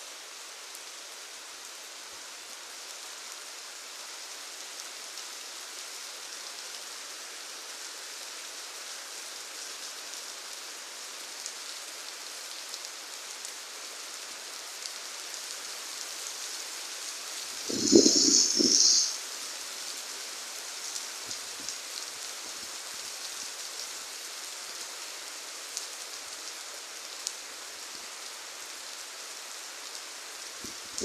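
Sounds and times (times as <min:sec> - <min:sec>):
steady rain pattering: 0:00.0 - 0:31.0.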